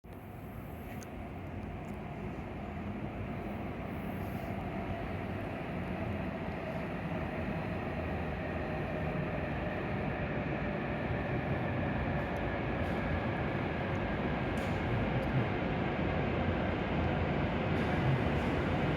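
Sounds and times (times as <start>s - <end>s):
train rumbling with faint whine: 0.1s - 18.9s.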